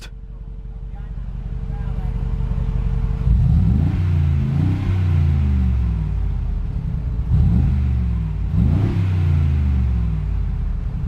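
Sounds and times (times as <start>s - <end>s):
car engine revving: 1.2s - 11.0s.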